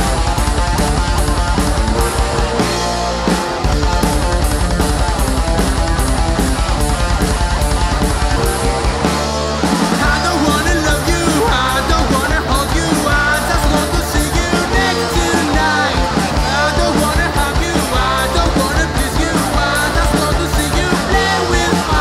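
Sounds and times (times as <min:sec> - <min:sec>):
bass guitar: 0:00.0 - 0:22.0
distorted electric guitars: 0:00.0 - 0:22.0
fast kick-drum beat: 0:00.0 - 0:22.0.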